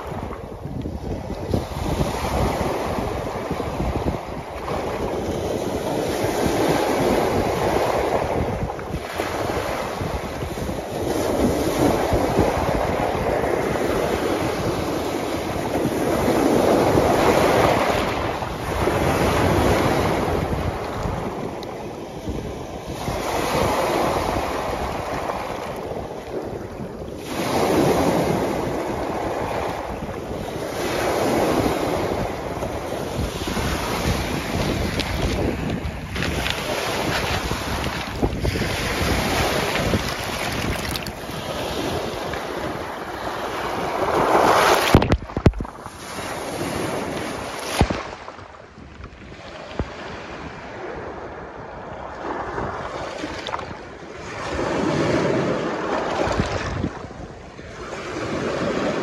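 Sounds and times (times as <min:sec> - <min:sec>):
lake waves breaking on rocks: 0:00.0 - 0:59.0
wind noise on microphone: 0:00.0 - 0:59.0.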